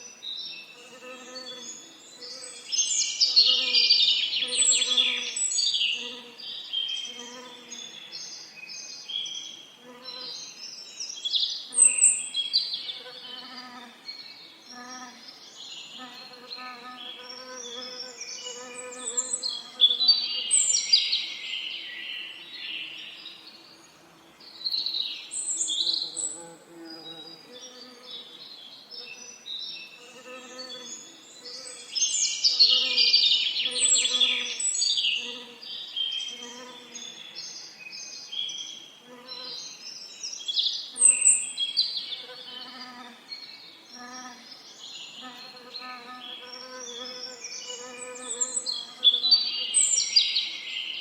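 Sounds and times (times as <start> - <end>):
songbirds singing and chirping: 0.0 - 51.0.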